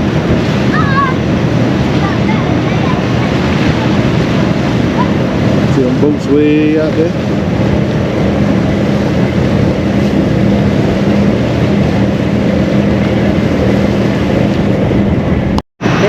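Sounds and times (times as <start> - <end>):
ferry engines droning: 0.0 - 16.0
wind rushing: 0.0 - 16.0.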